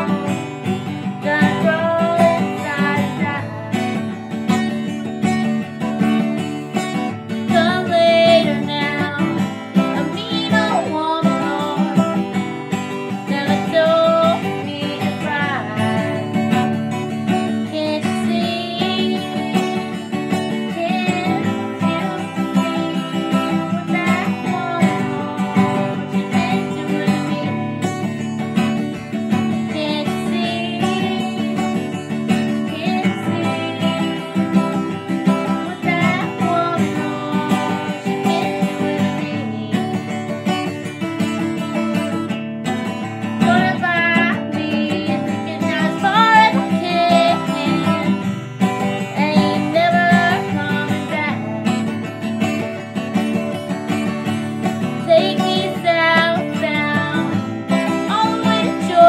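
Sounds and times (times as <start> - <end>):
acoustic guitar strumming: 0.0 - 59.0
woman singing: 0.0 - 59.0.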